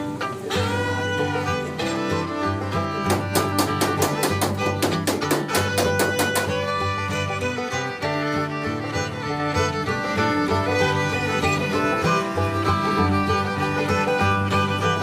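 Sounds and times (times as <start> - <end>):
fiddle and guitar music: 0.0 - 15.0.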